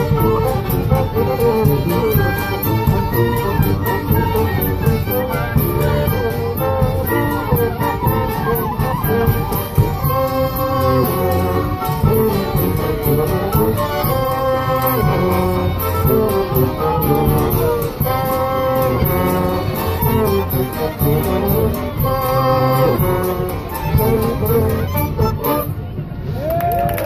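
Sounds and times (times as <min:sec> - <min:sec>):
marching bass drum beat: 0:00.0 - 0:25.8
street band playing: 0:00.0 - 0:27.0.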